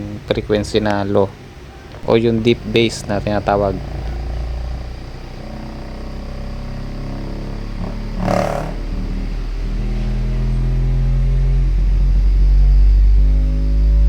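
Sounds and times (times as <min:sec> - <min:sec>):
deep bass test tone: 0:02.0 - 0:14.0.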